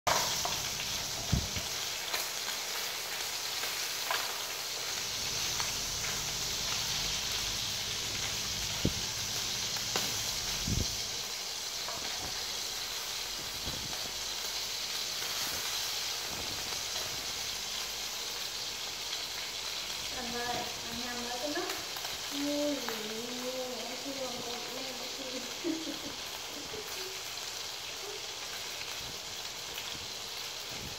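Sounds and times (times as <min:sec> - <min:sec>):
food sizzling in oil: 0:00.1 - 0:30.9.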